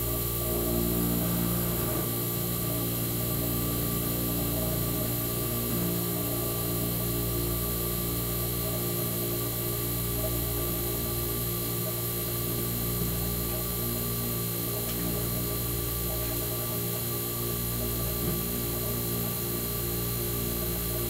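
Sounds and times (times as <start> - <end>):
compressor humming: 0.0 - 21.0.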